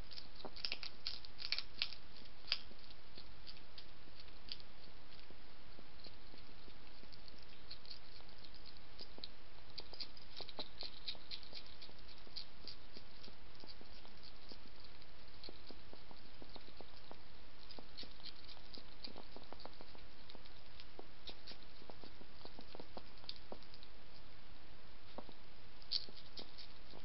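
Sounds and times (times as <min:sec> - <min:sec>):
hedgehog crunching food: 0:00.0 - 0:24.3, 0:25.1 - 0:27.0.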